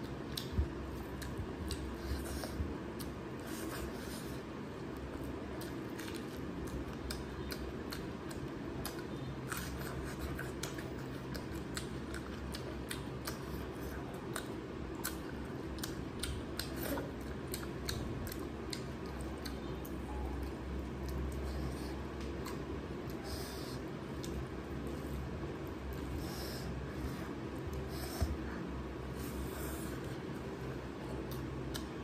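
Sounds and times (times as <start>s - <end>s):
low steady hum: 0.0s - 32.0s
person chewing food: 0.0s - 32.0s.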